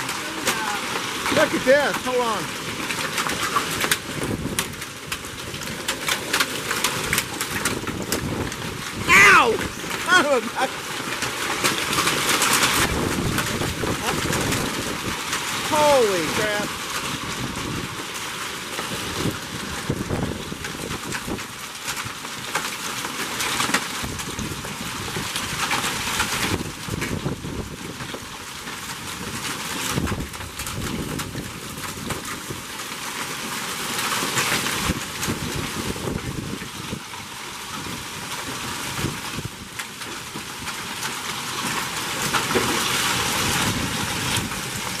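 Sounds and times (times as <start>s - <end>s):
hail and heavy rain pelting: 0.0s - 45.0s.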